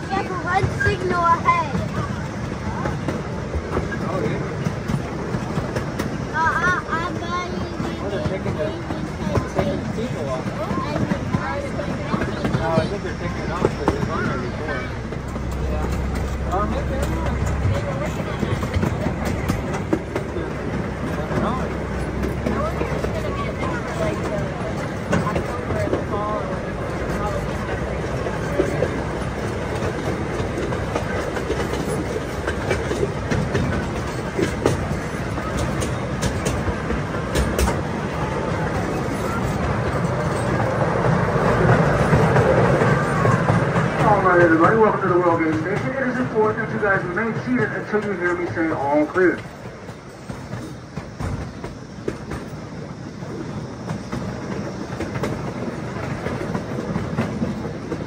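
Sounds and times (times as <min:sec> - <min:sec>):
train rumbling on track: 0:00.0 - 0:58.0
wheels clicking and knocking: 0:00.0 - 0:58.0.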